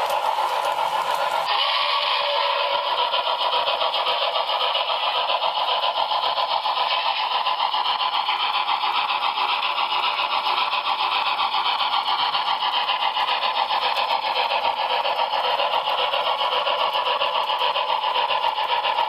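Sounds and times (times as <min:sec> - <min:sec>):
model locomotive running: 0:00.0 - 0:19.0.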